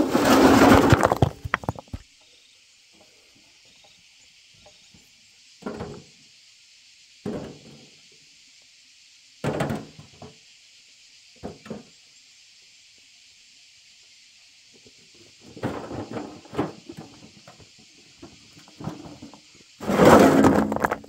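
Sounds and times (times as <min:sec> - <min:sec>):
steady high hiss: 0:00.0 - 0:20.2.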